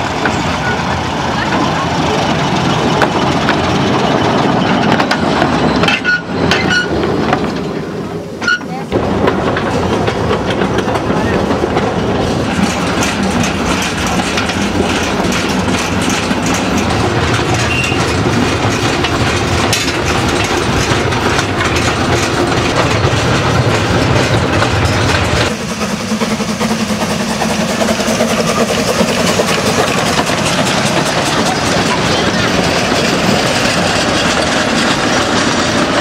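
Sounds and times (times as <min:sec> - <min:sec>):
steam train rolling past: 0:00.0 - 0:36.0
train wheels clattering over rail joints: 0:00.0 - 0:36.0.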